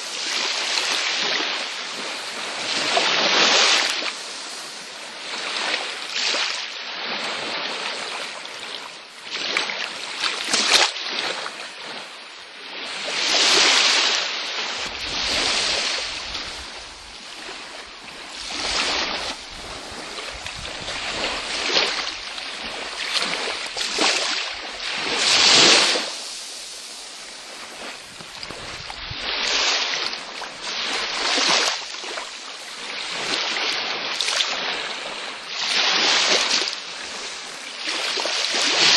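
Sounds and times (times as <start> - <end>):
small waves breaking on beach: 0.0 - 38.9.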